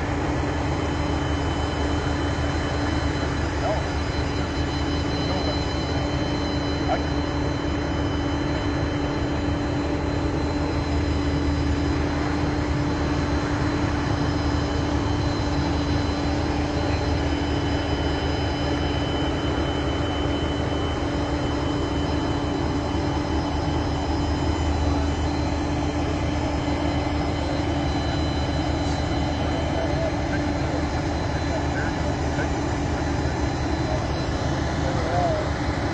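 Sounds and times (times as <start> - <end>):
machinery humming and rumbling: 0.0 - 35.9.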